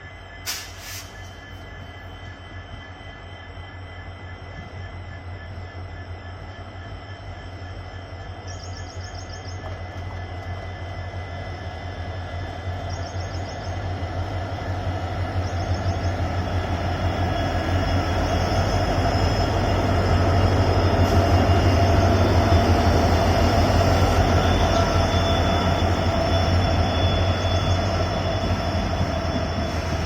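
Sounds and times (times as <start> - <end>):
diesel locomotives humming: 0.0 - 30.0.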